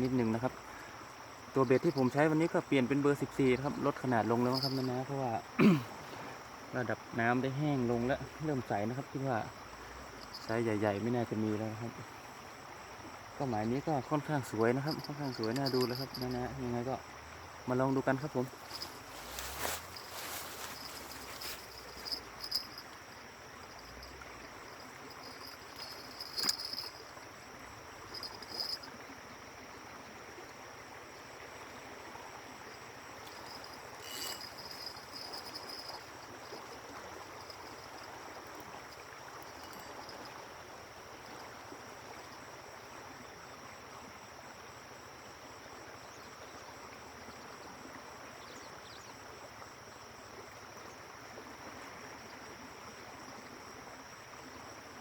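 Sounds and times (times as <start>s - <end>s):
insects chirping: 0.0s - 55.0s
stream water flowing: 0.0s - 55.0s.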